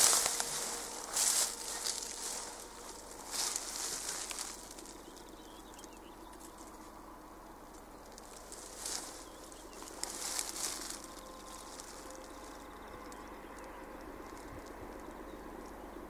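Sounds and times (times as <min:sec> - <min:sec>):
high rustling hiss: 0:00.0 - 0:13.1
faint distant hum: 0:00.0 - 0:16.0.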